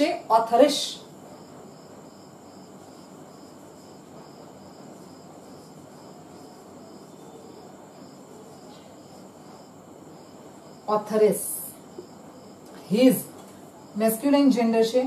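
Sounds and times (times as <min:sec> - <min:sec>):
insect chirping: 0:00.0 - 0:14.7.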